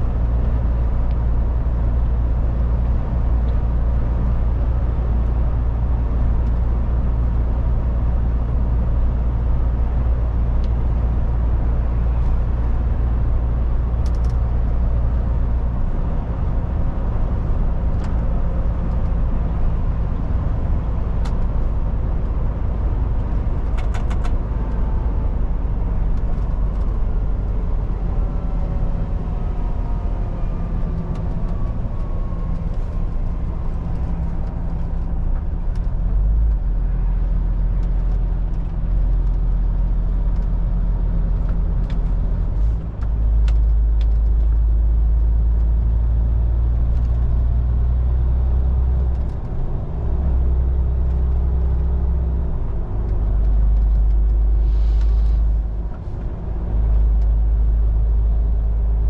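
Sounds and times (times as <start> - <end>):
road noise: 0.0 - 59.0
truck diesel engine drone: 0.0 - 59.0.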